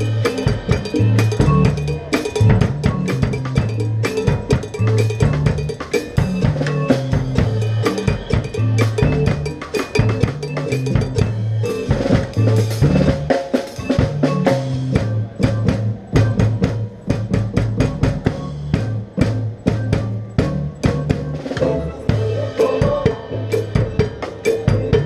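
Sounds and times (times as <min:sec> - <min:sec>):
low bass line: 0:00.0 - 0:25.0.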